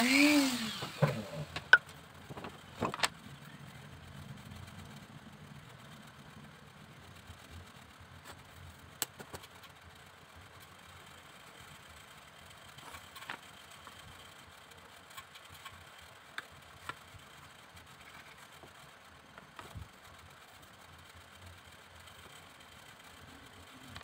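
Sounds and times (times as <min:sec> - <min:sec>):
faint background hum: 0:00.0 - 0:24.0.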